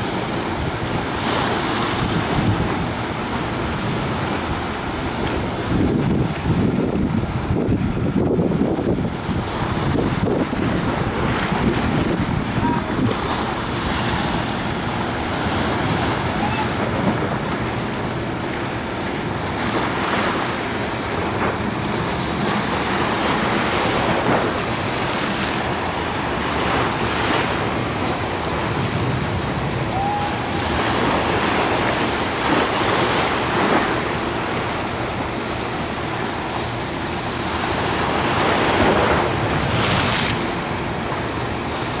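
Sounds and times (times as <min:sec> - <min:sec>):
small surf breaking on reef: 0:00.0 - 0:42.0
wind buffeting microphone: 0:00.0 - 0:42.0.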